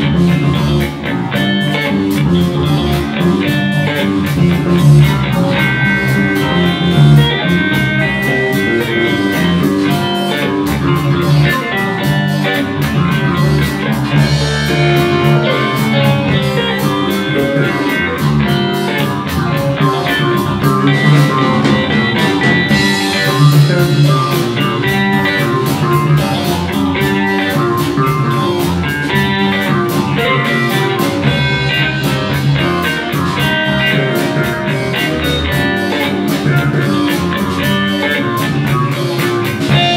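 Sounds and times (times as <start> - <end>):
drum kit: 0.0 - 39.9
electric bass: 0.0 - 39.9
electric guitars: 0.0 - 39.9.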